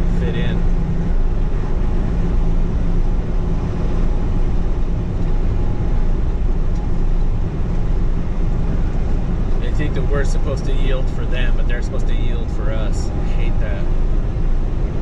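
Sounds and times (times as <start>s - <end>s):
constant low hum: 0.0s - 15.0s
diesel engine drone: 0.0s - 15.0s
road noise: 0.0s - 15.0s.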